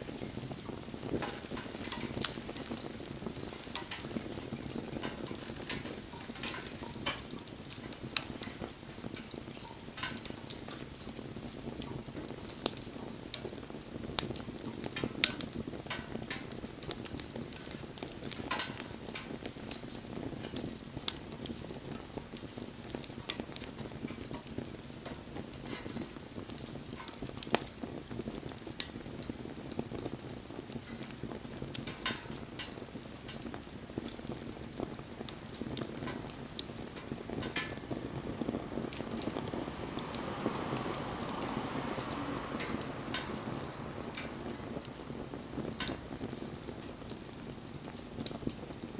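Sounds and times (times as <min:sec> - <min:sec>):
low rush of flame: 0:00.0 - 0:48.9
wood bonfire crackling: 0:00.0 - 0:48.9.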